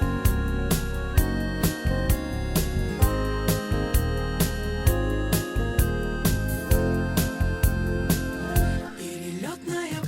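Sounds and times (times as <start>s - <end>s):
instrumental pop backing track: 0.0s - 10.0s.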